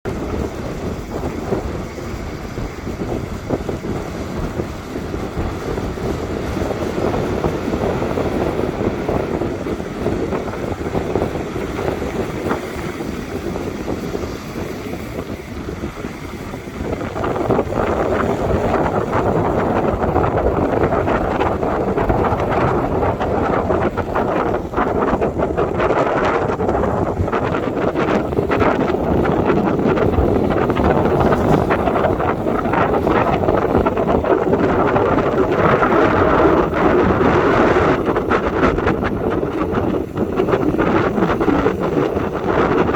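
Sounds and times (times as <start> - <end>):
sea rushing: 0.0 - 42.9
wind buffeting microphone: 0.0 - 42.9.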